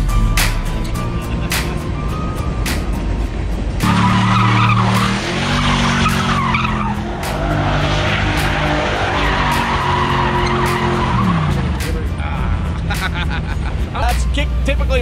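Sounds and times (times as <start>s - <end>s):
car engine at high revs: 1.4s - 14.0s
tires screeching on asphalt: 1.9s - 14.4s.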